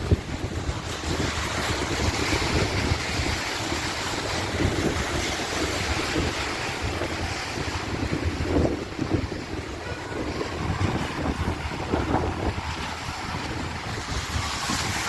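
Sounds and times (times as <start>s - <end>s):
heavy rain pouring: 0.0s - 15.0s
wind buffeting microphone: 0.0s - 15.0s.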